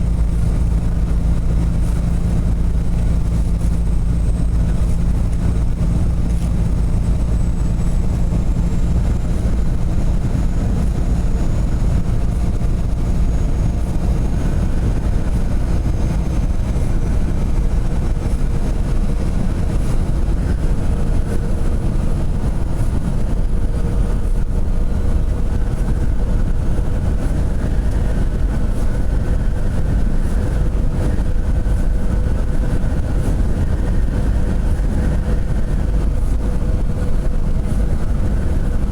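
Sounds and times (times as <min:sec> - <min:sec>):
faint steady whine: 0:00.0 - 0:38.9
truck engine and tyre drone: 0:00.0 - 0:38.9.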